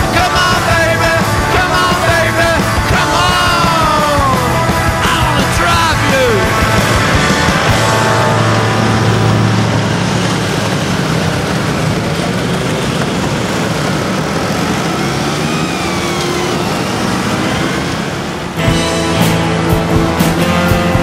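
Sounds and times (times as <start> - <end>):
motor scooter engines running: 0.0 - 21.0
wind and road noise: 0.0 - 21.0.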